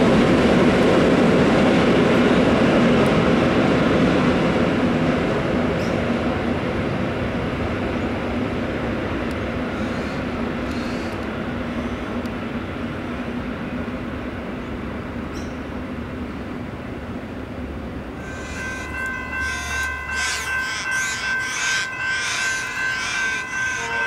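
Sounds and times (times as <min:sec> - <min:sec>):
electric train hum: 0:00.0 - 0:24.0.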